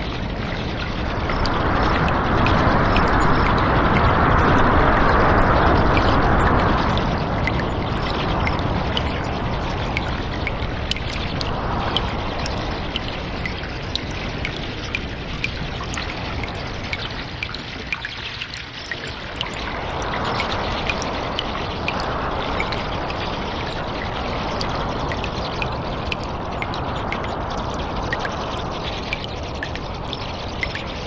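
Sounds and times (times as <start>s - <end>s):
running water: 0.0s - 31.0s
water dripping: 0.0s - 31.0s.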